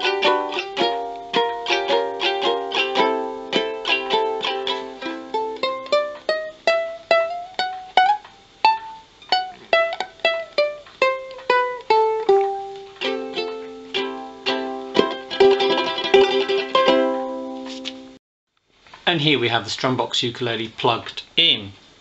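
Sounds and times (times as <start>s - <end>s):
strummed ukulele chord: 0.0s - 17.9s
picked ukulele melody: 0.0s - 18.2s.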